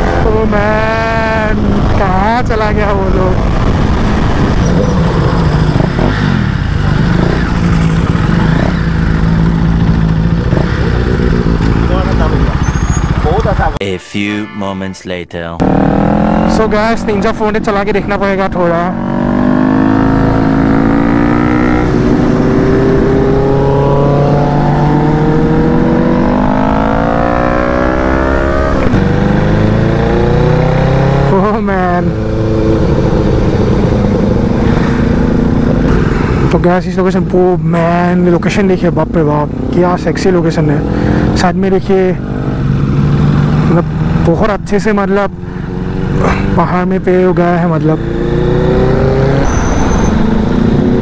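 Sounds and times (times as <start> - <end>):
motorcycle engine accelerating: 0.0 - 13.8, 15.6 - 51.0.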